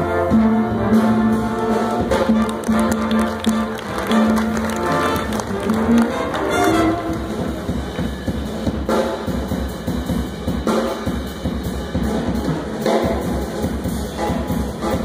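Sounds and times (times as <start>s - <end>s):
jazz big band playing: 0.0s - 15.0s.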